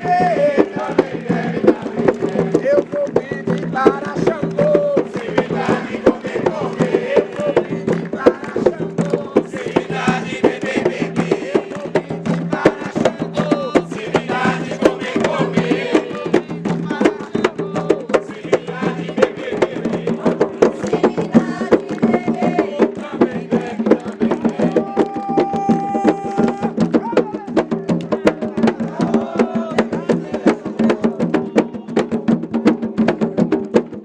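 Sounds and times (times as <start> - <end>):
fast rhythmic percussion: 0.0 - 34.0
voices singing a chant: 0.0 - 34.0.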